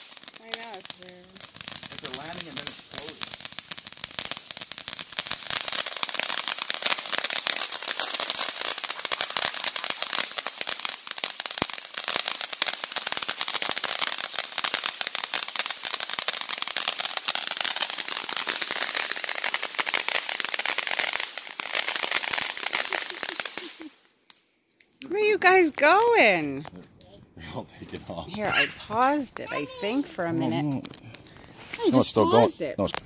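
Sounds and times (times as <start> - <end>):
firework crackling: 0.0 - 26.7, 27.4 - 33.0.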